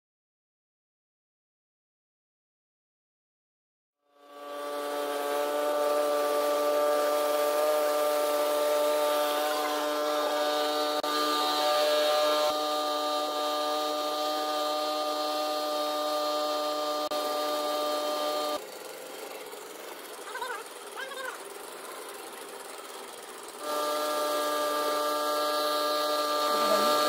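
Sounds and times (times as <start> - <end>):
outboard motor droning whine: 4.0 - 27.0.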